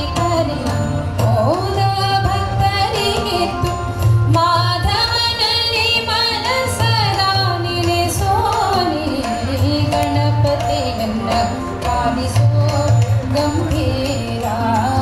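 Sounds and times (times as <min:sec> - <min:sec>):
instrumental accompaniment: 0:00.0 - 0:15.0
woman singing: 0:00.0 - 0:15.0.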